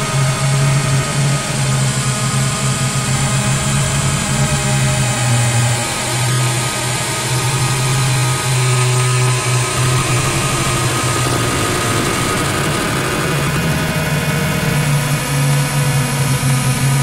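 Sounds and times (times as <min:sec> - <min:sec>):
low buzzing drone: 0:00.0 - 0:17.0.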